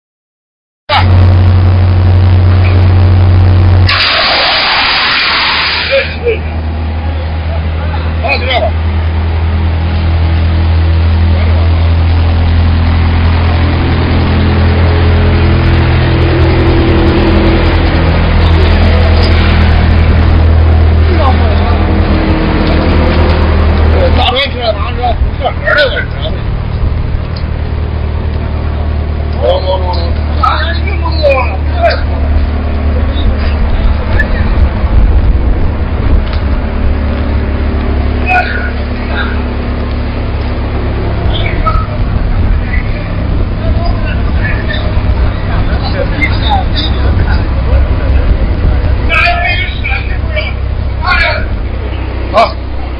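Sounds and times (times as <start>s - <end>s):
wood chipper running: 0.9s - 52.9s.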